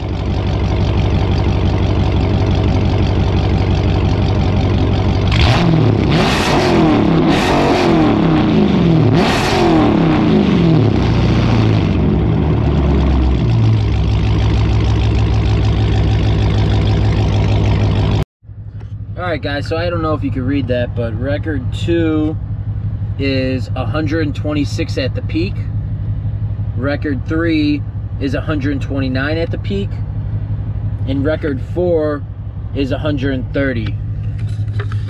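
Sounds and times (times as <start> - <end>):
loud car engine idling and revving: 0.0 - 35.0.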